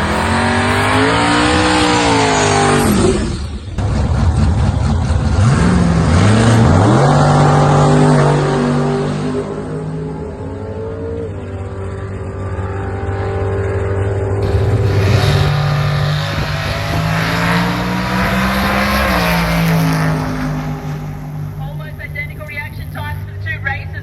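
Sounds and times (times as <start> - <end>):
drag racing car engine running: 0.0 - 24.0.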